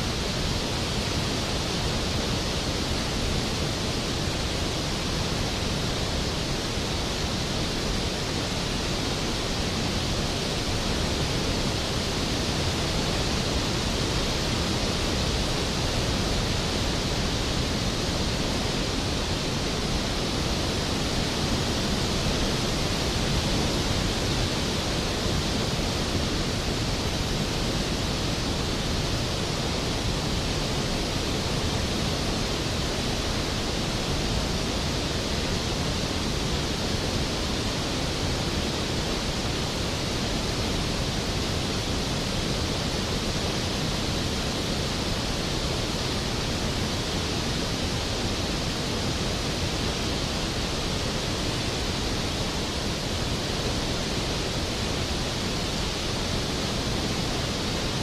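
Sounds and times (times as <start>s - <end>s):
waterfall roar: 0.0s - 58.0s.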